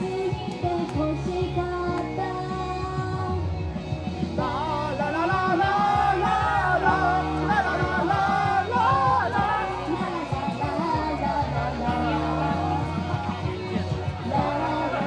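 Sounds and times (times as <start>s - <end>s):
pop song with woman singing: 0.0s - 15.0s.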